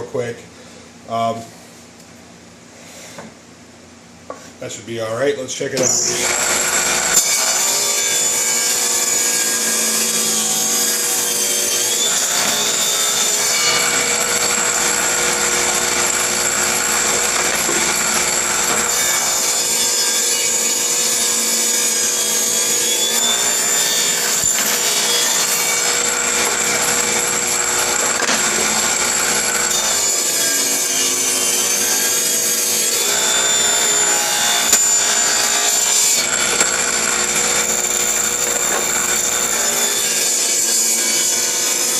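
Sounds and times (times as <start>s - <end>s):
power tool cutting wood: 5.8s - 41.9s.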